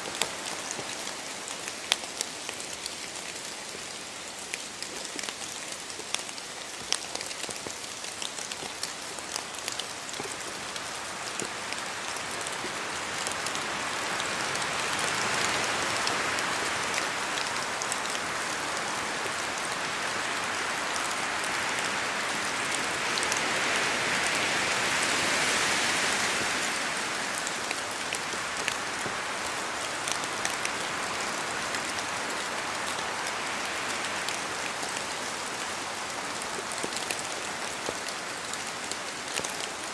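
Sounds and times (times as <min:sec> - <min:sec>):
rain pattering on foliage: 0:00.0 - 0:39.9
wind gusts through trees: 0:00.0 - 0:39.9.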